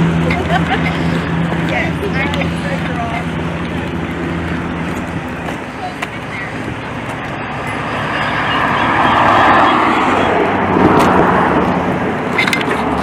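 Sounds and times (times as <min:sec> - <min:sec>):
vehicle driving past: 0:00.0 - 0:13.0.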